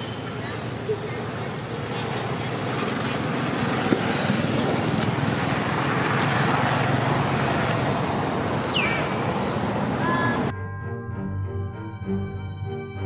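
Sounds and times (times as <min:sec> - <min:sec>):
motor vehicle rumble: 0:00.0 - 0:10.6.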